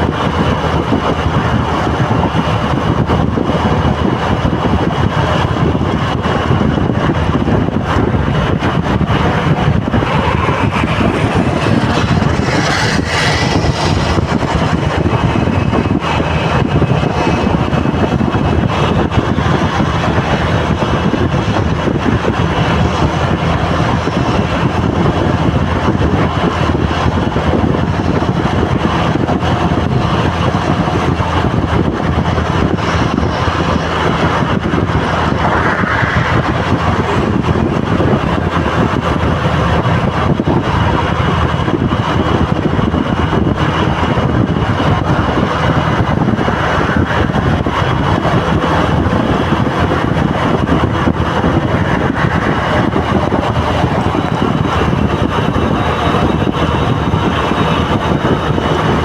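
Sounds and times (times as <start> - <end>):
vehicle engines in traffic: 0.0 - 59.0
wind noise on microphone: 0.0 - 59.0.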